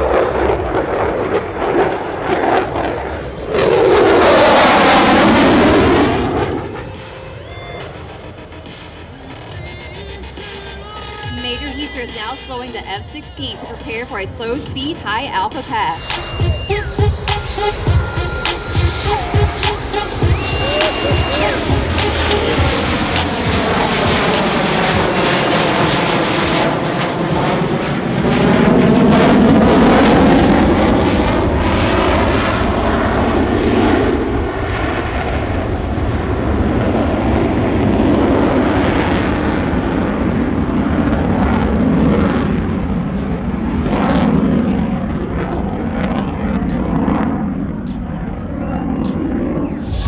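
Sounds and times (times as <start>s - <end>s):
jet engine roar: 0.0s - 50.0s.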